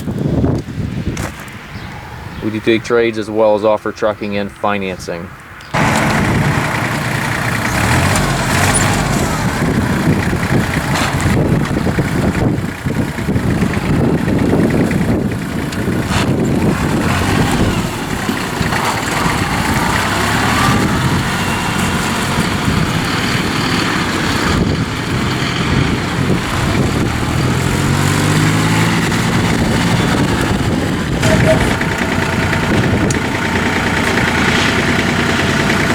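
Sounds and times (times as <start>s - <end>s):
tractor diesel engine running: 5.7s - 35.9s.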